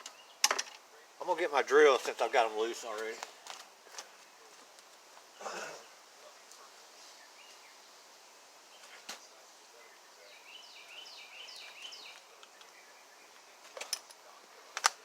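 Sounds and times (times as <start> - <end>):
faint bird song: 0.0 - 15.0.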